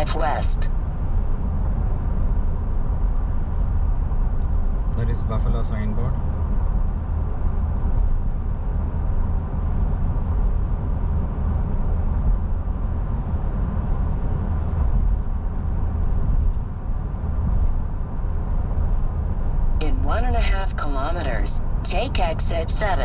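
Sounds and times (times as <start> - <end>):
car driving at highway speed: 0.2 - 23.0.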